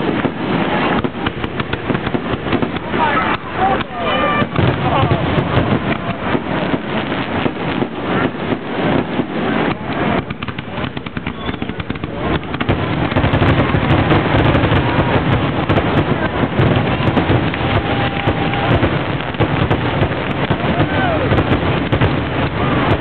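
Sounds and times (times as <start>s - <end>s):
fireworks barrage of bangs: 0.0s - 23.0s
fireworks crackling and popping: 0.0s - 23.0s.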